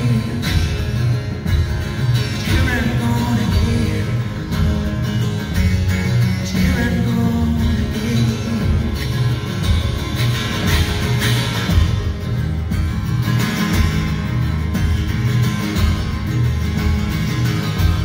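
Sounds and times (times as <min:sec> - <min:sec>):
acoustic guitar strumming: 0:00.0 - 0:18.0
drums beating: 0:00.0 - 0:18.0
electric guitar: 0:00.0 - 0:18.0.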